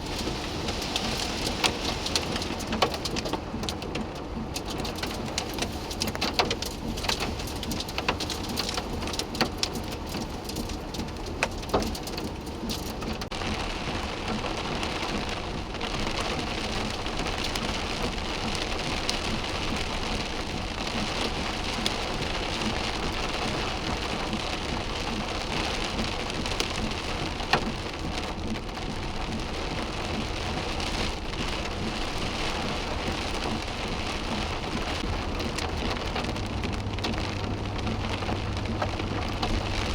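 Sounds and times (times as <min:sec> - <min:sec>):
heavy rain pouring: 0:00.0 - 0:39.9
raindrops ticking on surface: 0:00.0 - 0:39.9.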